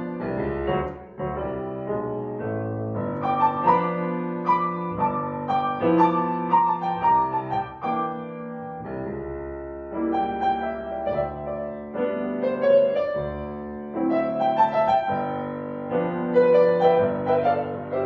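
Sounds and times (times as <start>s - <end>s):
slow solo piano chords: 0.0s - 18.0s.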